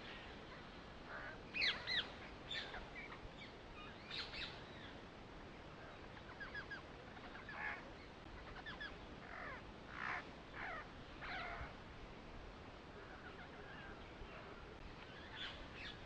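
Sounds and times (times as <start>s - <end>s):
birds chirping: 0.0s - 11.8s, 12.8s - 16.0s
background hiss: 0.0s - 16.0s.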